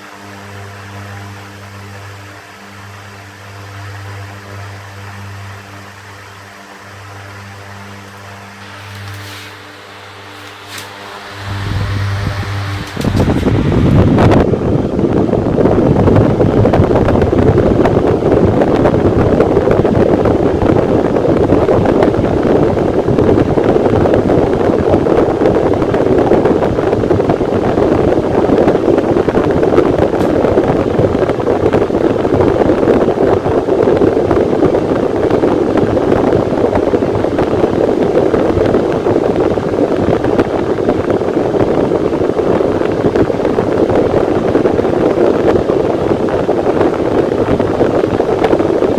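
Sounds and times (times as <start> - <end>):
electric fan running: 0.0 - 48.9.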